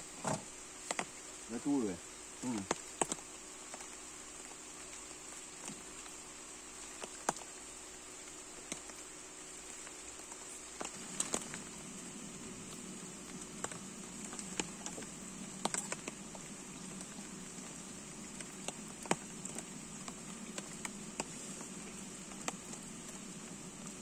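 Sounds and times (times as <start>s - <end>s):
steady high hiss: 0.0s - 24.0s
rain drops tapping: 0.5s - 24.0s.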